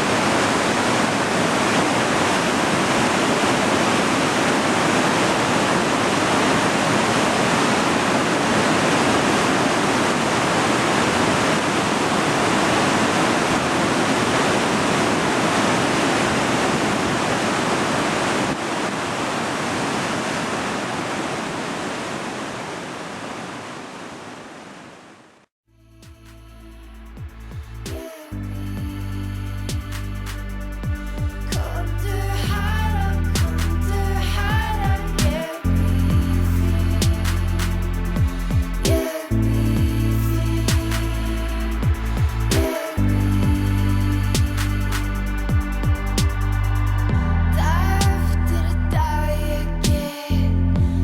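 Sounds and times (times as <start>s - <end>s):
waterfall rushing: 0.0s - 25.4s, 31.7s - 47.1s.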